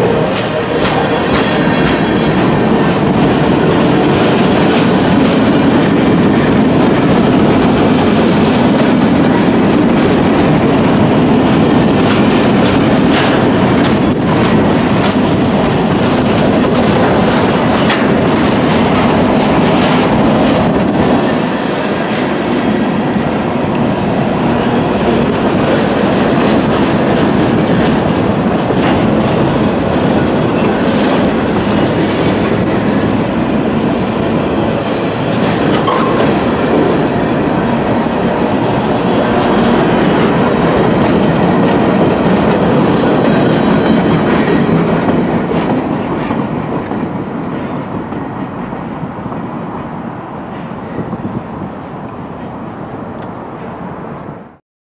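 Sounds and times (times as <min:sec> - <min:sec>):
train wheels rumbling on rail: 0:00.0 - 0:54.6.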